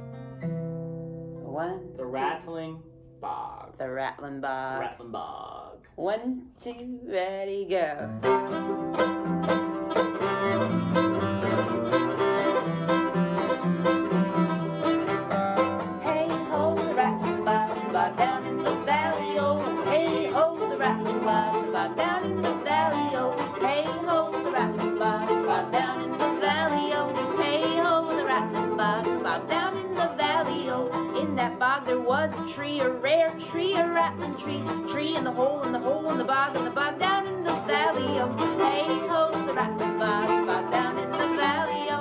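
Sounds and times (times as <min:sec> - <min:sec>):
acoustic guitar strumming: 0:00.0 - 0:05.5, 0:08.1 - 0:42.0
bowed keyed fiddle folk melody: 0:08.0 - 0:42.0.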